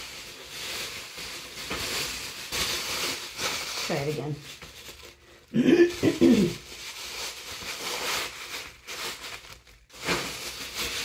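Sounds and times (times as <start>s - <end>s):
plastic bags rustling: 0.0s - 11.0s.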